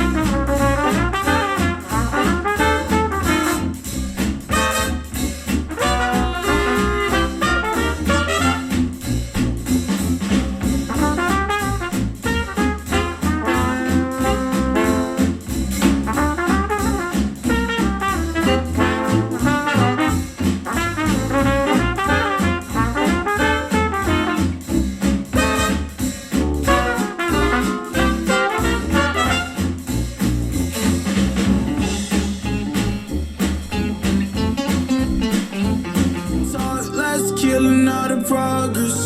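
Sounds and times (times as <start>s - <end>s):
jazz with brass horns: 0.0s - 39.0s
steady bass line: 0.0s - 39.0s.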